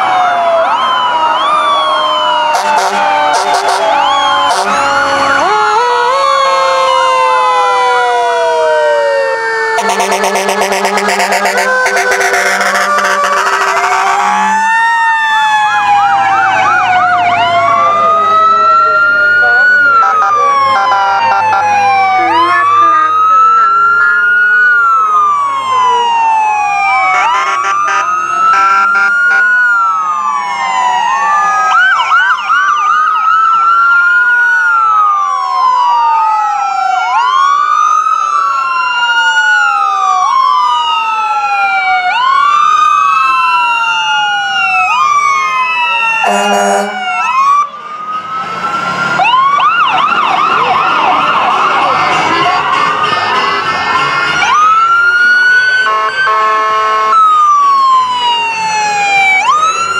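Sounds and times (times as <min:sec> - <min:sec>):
emergency vehicle sirens wailing: 0:00.0 - 0:59.9.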